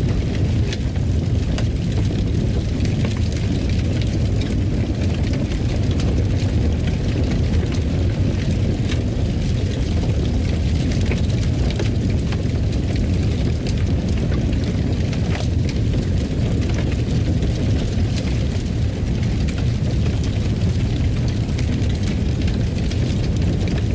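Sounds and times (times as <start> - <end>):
fire crackling and popping: 0.0 - 23.9.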